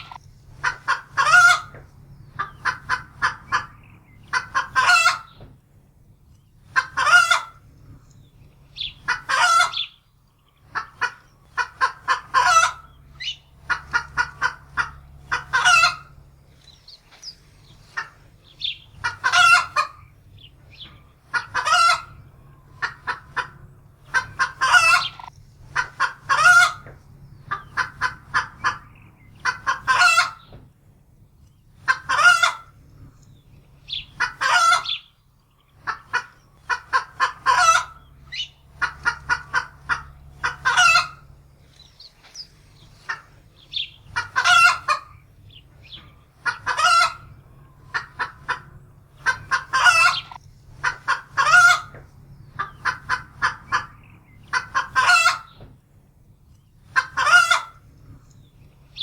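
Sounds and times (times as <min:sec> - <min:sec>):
hen cackling and squawking: 0:00.0 - 0:05.5, 0:06.6 - 0:30.6, 0:31.7 - 0:55.7, 0:56.8 - 0:59.0
low steady hum: 0:00.0 - 0:59.0.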